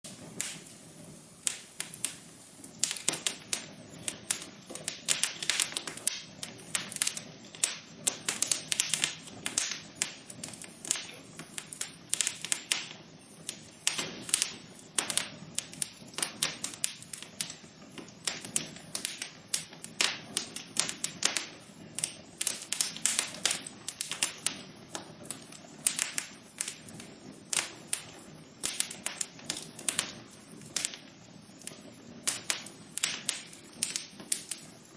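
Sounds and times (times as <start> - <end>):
fireplace fire crackling: 0.0 - 34.9
soft steady hiss: 0.1 - 34.9.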